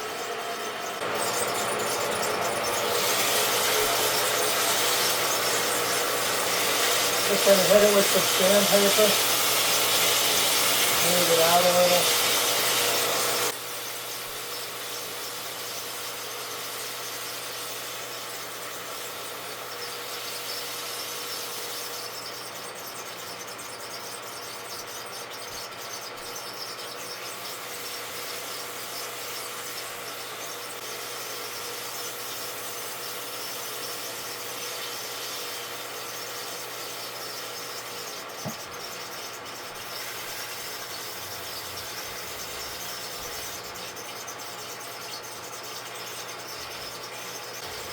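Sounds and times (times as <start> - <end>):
wood lathe humming and whining: 0.0 - 47.9.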